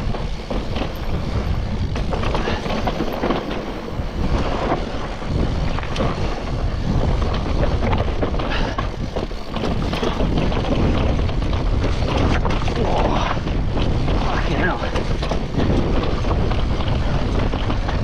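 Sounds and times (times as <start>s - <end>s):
bike rattling over bumps: 0.0s - 18.0s
tyres on dirt and rock: 0.0s - 18.0s
wind rushing over microphone: 0.0s - 18.0s.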